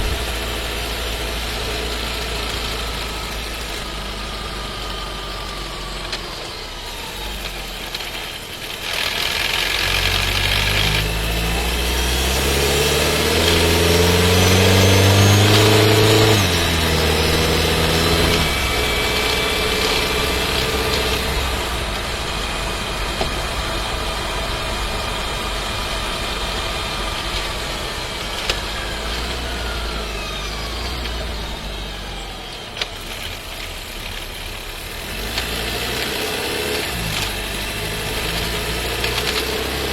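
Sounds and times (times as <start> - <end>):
car engine accelerating: 0.0 - 39.9
rattle: 0.0 - 39.9.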